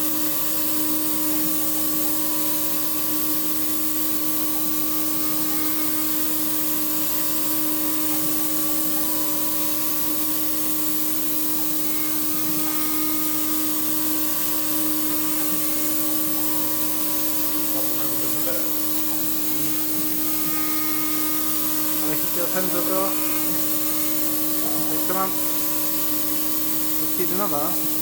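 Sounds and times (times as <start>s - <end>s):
milling machine spindle whine: 0.0s - 28.0s.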